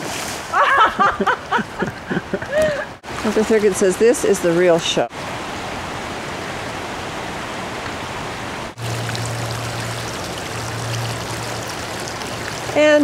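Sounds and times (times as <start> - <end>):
floodwater rushing: 0.0 - 1.8, 2.5 - 13.0.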